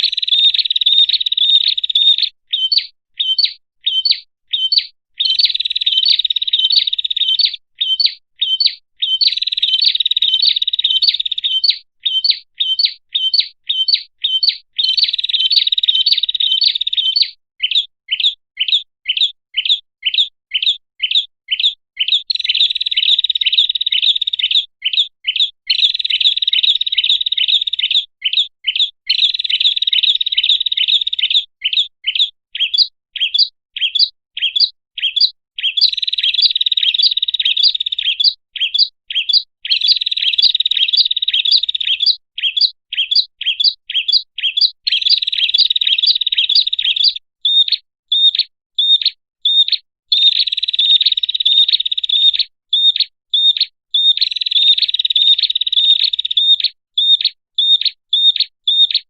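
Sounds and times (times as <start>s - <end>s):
bird chirping and trilling: 0.0s - 59.0s.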